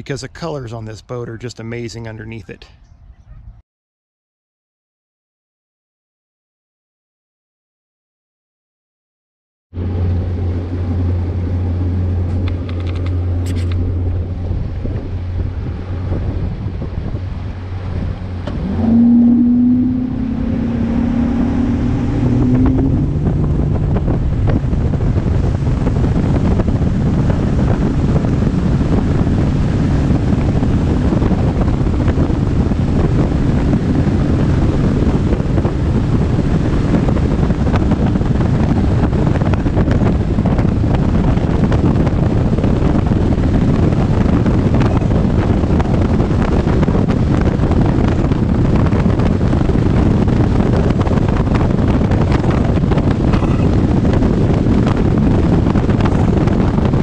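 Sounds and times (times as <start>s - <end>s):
outboard engine running: 9.8s - 57.0s
wind buffeting microphone: 9.8s - 57.0s.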